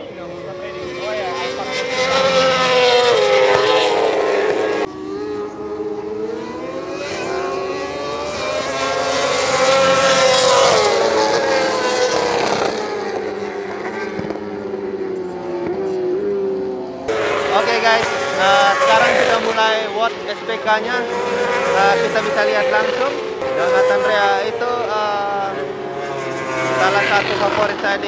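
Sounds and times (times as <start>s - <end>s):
racing motorcycles passing: 0.0s - 28.0s.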